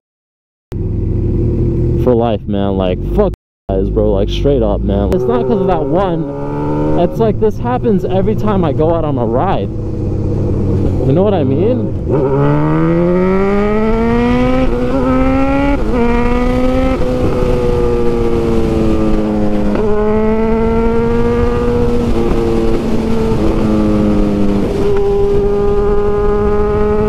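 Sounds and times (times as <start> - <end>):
motorcycle engine upshifting: 4.4 - 27.0
rushing wind: 4.9 - 27.0.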